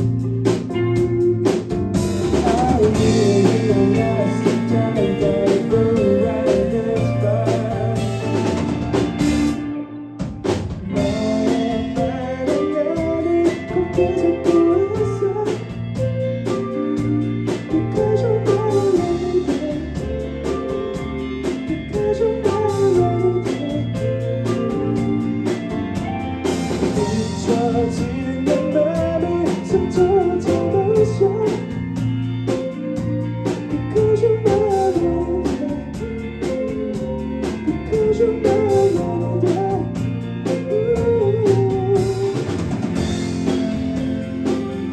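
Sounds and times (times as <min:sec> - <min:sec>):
bass guitar: 0:00.0 - 0:44.9
drum kit: 0:00.0 - 0:44.9
electric guitars: 0:00.0 - 0:44.9
person singing: 0:02.3 - 0:09.0, 0:10.9 - 0:44.9.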